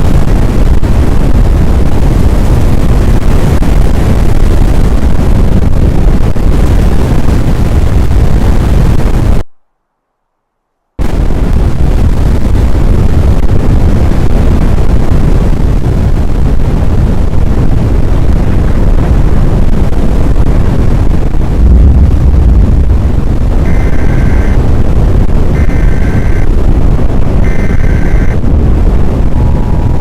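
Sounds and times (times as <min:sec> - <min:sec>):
wind buffeting microphone: 0:00.0 - 0:09.4, 0:11.0 - 0:30.0.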